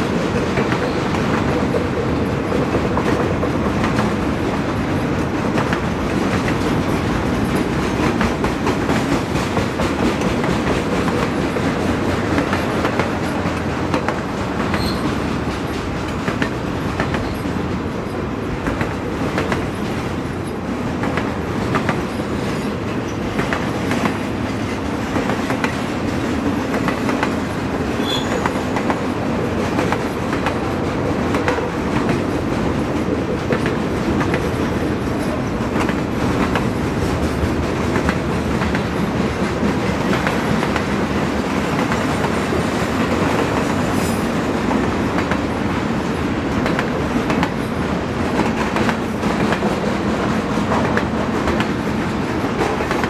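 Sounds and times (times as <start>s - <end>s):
continuous train rumble: 0.0s - 53.0s
train wheels clattering on rails: 0.0s - 53.0s.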